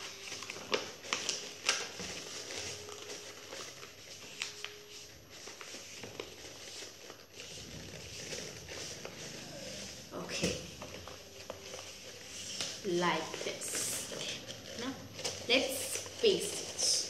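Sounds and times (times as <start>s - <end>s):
paper crinkling and rustling: 0.0s - 17.0s.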